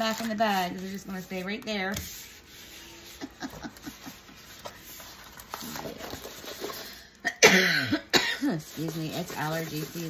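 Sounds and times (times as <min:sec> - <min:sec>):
plastic film rustling: 0:00.0 - 0:07.2, 0:08.5 - 0:10.0.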